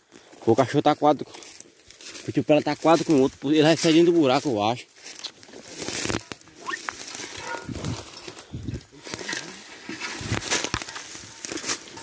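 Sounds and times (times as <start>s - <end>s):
rustling in dry brush: 0.1s - 12.0s.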